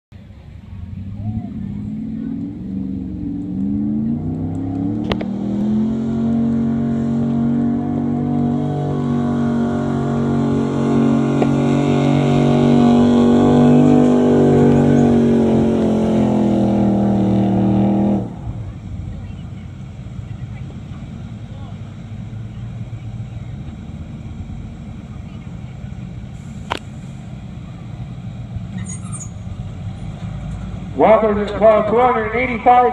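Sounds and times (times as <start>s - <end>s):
truck engine revving under load: 0.2s - 32.9s.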